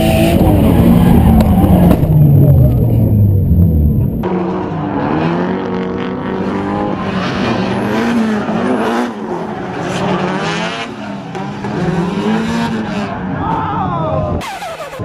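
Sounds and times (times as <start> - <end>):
car engines revving: 0.0 - 15.0
tyres skidding and squealing: 0.0 - 15.0.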